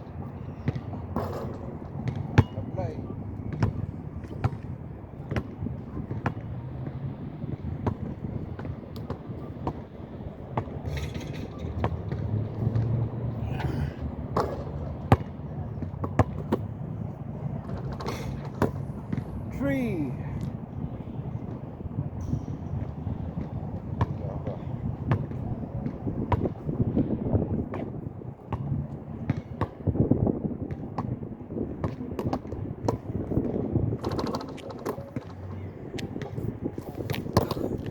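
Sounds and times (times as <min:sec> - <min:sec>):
strong wind buffeting microphone: 0:00.0 - 0:16.0, 0:20.5 - 0:37.9.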